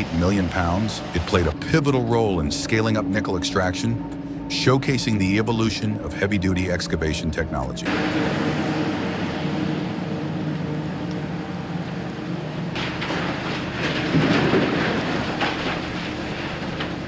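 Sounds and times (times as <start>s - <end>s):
heavy diesel engine drone: 0.0s - 17.0s.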